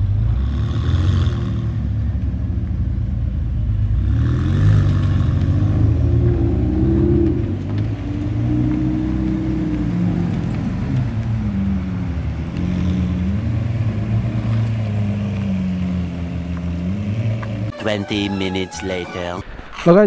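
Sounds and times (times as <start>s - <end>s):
vehicle engine running: 0.0s - 19.1s.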